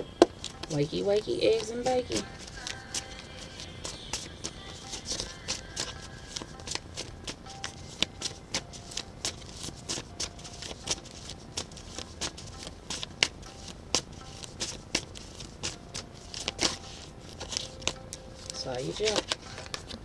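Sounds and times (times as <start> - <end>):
cards being shuffled: 0.2 - 0.7, 1.5 - 20.0.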